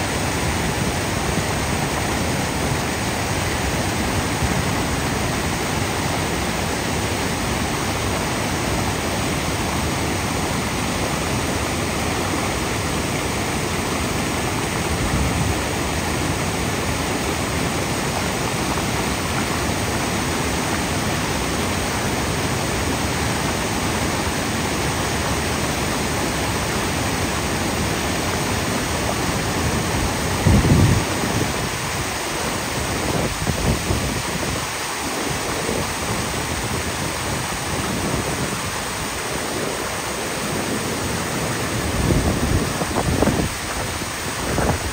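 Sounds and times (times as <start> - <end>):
waterfall rushing over boulders: 0.0 - 44.9.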